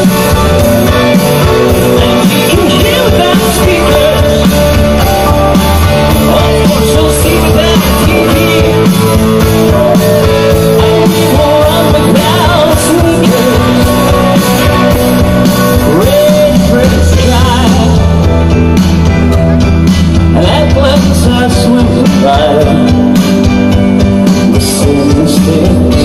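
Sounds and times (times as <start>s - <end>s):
drumbeat: 0.0s - 26.0s
lead vocals: 0.0s - 26.0s
live rock band: 0.0s - 26.0s.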